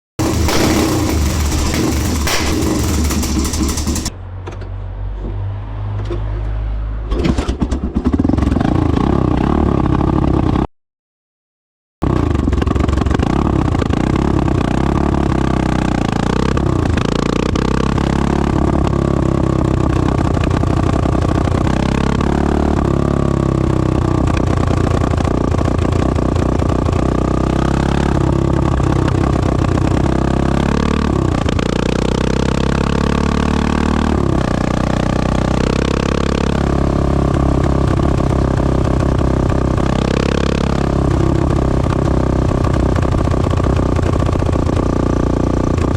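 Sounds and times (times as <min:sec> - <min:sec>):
motorcycle engine revving: 0:00.2 - 0:04.2, 0:07.7 - 0:10.7, 0:12.0 - 0:45.9.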